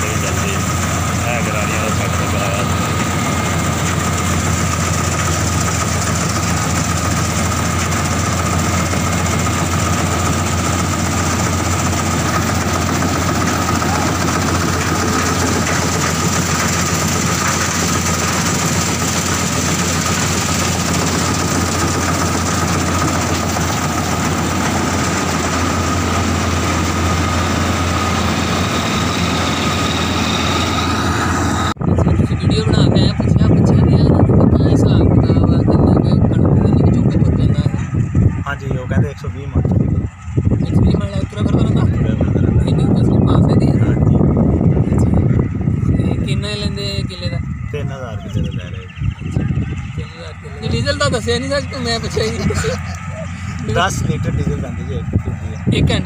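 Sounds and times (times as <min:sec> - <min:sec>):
combine harvester engine drone: 0:00.0 - 0:56.0
high whine: 0:00.0 - 0:56.0.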